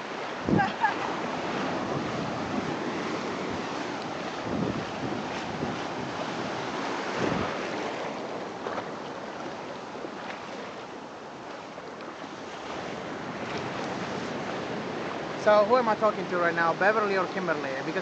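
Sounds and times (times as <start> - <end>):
wind on microphone: 0.0 - 15.8
surf washing onto beach: 0.0 - 18.0.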